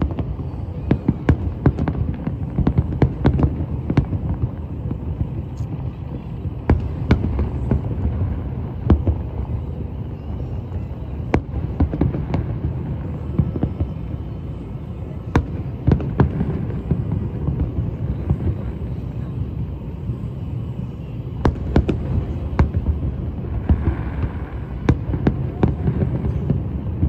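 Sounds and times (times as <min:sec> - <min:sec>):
fireworks bangs and cracks: 0:00.0 - 0:27.0
low city rumble: 0:00.0 - 0:27.0.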